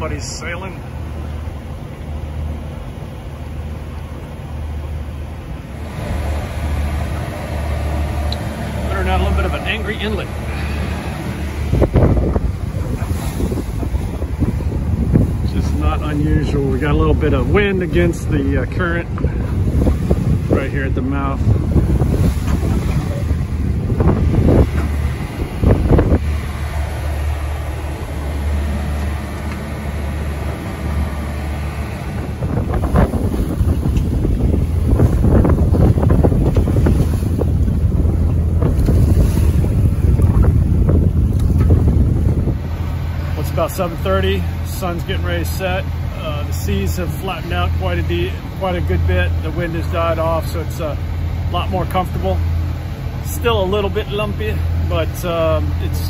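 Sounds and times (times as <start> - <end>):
boat diesel engine rumbling: 0.0 - 56.0
rush of wind and water: 0.0 - 56.0
sea noise: 0.0 - 56.0.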